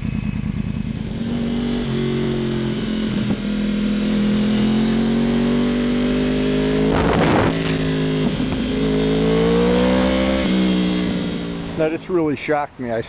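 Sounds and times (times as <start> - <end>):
motorcycle engine accelerating: 0.0 - 12.4.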